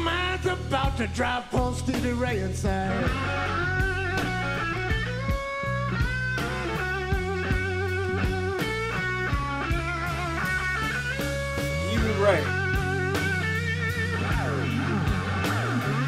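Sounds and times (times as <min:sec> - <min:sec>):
bass guitar: 0:00.0 - 0:16.0
drums: 0:00.0 - 0:16.0
electric guitar lead with vibrato: 0:02.7 - 0:16.0.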